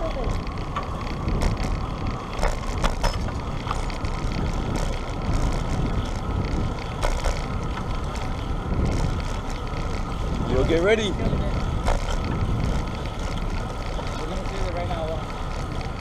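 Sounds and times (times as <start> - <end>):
sharp rattling clicks: 0.0 - 16.0
wind and road noise: 0.0 - 16.0.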